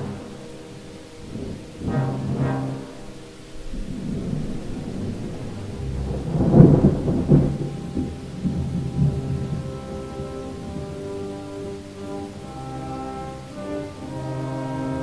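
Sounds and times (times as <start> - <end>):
thunder rolling: 0.0 - 12.6
rain: 0.0 - 15.0.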